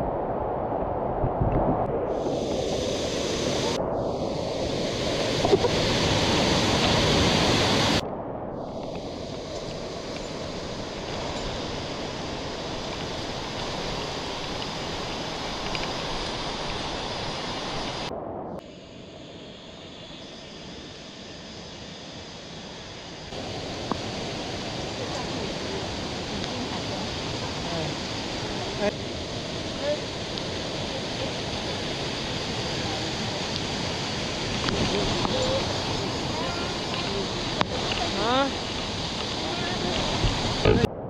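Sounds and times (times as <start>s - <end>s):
mountain stream rushing: 0.0s - 41.0s.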